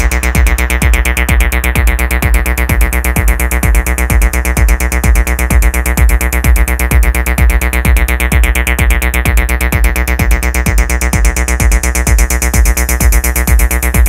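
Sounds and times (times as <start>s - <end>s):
acid techno music: 0.0s - 14.0s.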